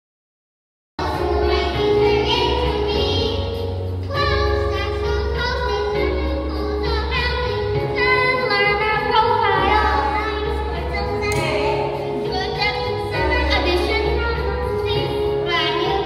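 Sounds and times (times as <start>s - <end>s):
young children singing: 1.0s - 16.0s.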